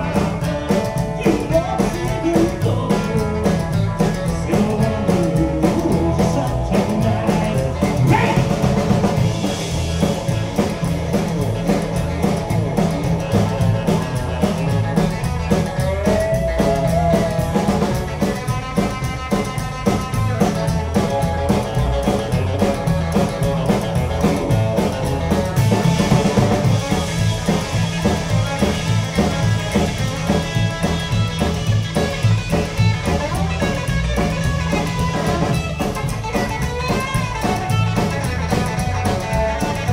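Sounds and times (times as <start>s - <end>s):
drum kit steady beat: 0.0s - 39.9s
electric lead guitar: 0.0s - 39.9s
strummed acoustic guitar: 0.0s - 39.9s
upright double bass: 0.0s - 39.9s.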